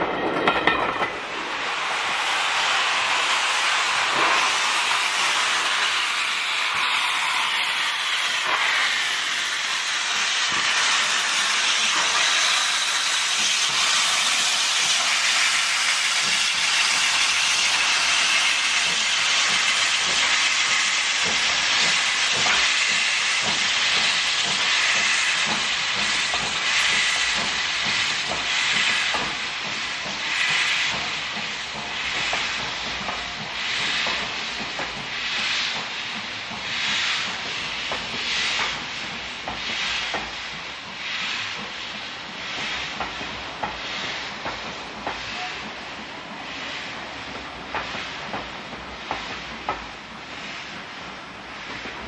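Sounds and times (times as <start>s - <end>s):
steam hissing: 0.0s - 52.0s
steam locomotive exhaust beats: 0.0s - 52.0s.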